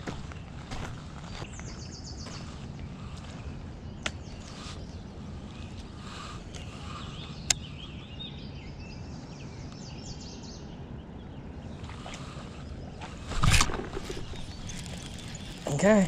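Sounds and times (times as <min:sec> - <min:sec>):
birds chirping: 0:00.0 - 0:16.0
low outdoor rumble: 0:00.0 - 0:16.0.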